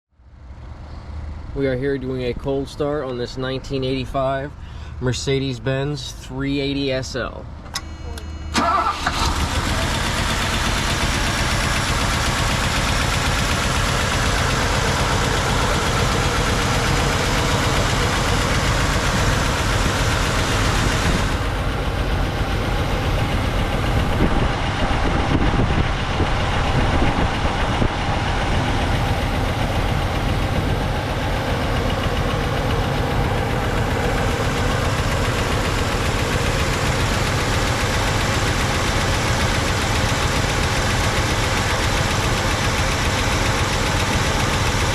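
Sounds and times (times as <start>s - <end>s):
car engine idling: 0.2s - 44.9s.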